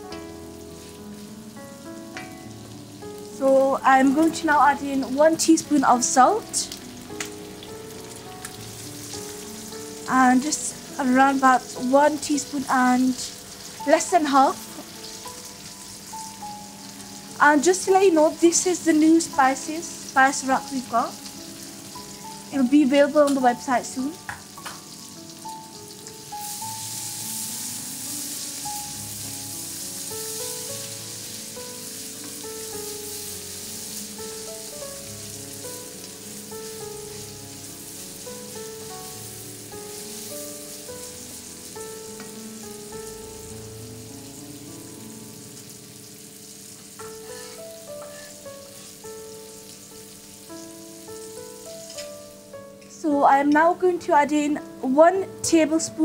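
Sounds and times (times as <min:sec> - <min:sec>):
onions sizzling in oil: 0:00.0 - 0:56.0
soft background music: 0:00.0 - 0:56.0.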